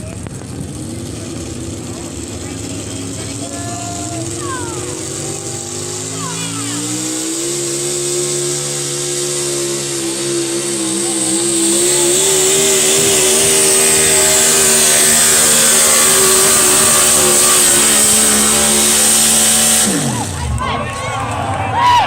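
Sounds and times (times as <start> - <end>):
tractor engine running hard: 0.0 - 22.0.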